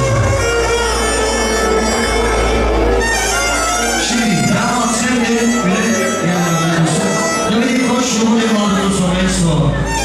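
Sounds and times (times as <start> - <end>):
loud music with deep bass: 0.0 - 10.0.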